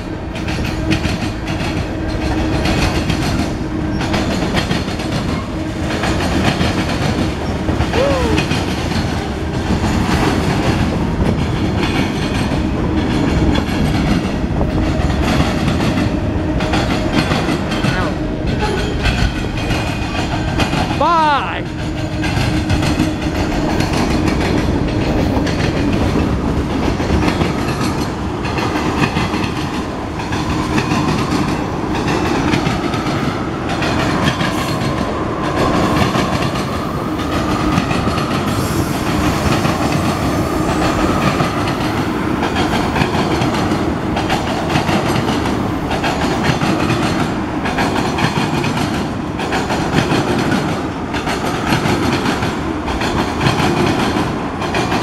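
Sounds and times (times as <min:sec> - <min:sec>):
freight train rumbling past: 0:00.0 - 0:55.0
train wheels clacking on rails: 0:00.0 - 0:55.0.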